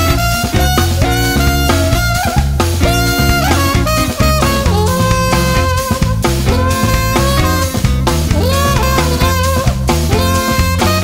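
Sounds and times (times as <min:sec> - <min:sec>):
upbeat band music: 0:00.0 - 0:11.0.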